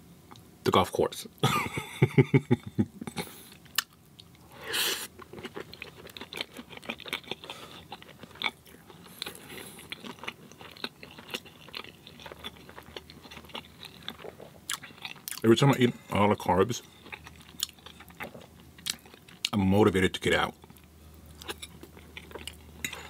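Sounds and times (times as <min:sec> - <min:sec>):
chewing crunchy food: 0:03.2 - 0:23.0.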